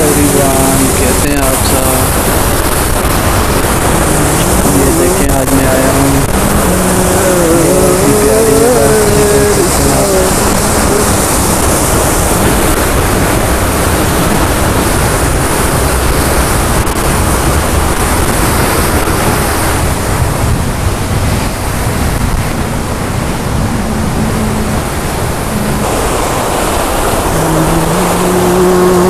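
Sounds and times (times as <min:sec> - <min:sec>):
water rushing in stream: 0:00.0 - 0:29.0.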